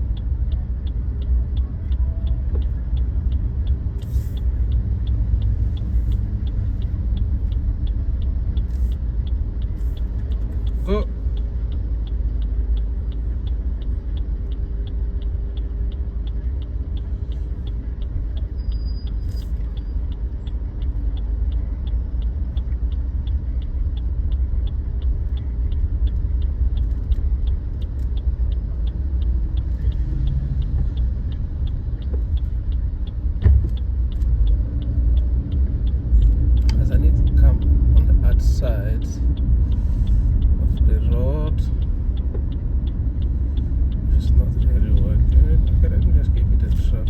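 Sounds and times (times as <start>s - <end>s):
road and engine rumble: 0.0s - 47.0s
turn signal ticking: 0.0s - 47.0s.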